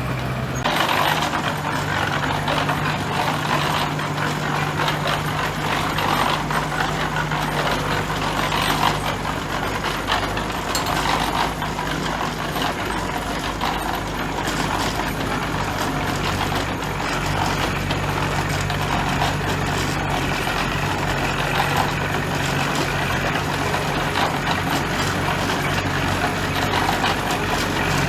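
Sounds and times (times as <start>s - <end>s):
diesel engine running: 0.0s - 28.0s
machinery rattling and clanking: 0.0s - 28.0s.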